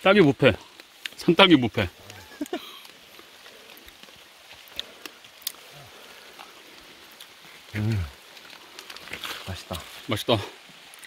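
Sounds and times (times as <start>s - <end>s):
light rain on leaves: 0.0s - 11.0s
water drips ticking: 0.0s - 11.0s.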